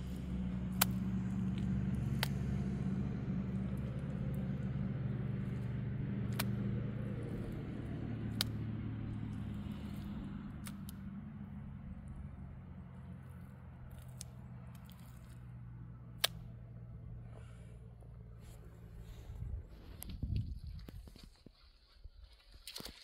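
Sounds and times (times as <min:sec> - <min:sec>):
motor engine humming: 0:00.0 - 0:20.8.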